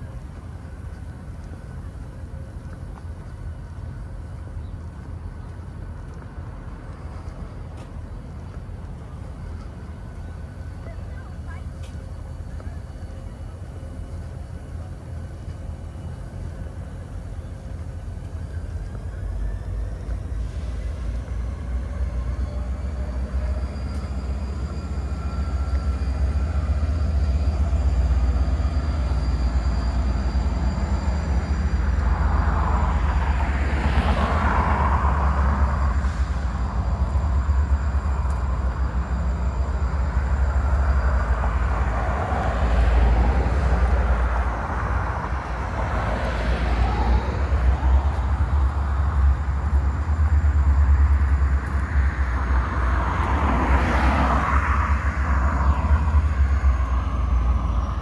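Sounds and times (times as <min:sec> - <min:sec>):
urban traffic rumble: 0:00.0 - 0:58.0.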